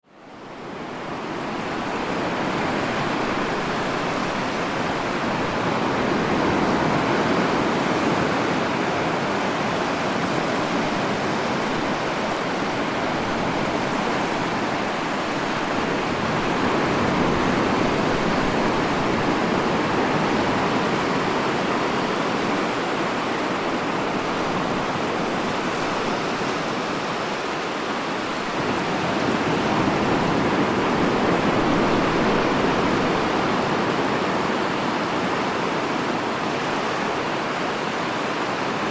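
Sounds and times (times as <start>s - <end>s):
ocean waves washing: 0.2s - 38.9s.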